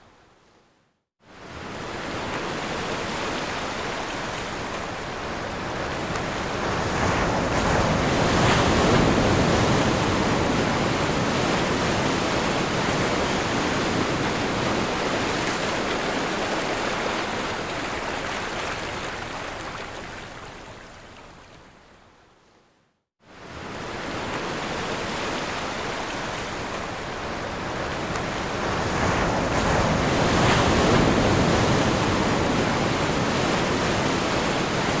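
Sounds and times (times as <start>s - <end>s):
ocean waves breaking on shore: 1.2s - 21.7s, 23.2s - 35.0s.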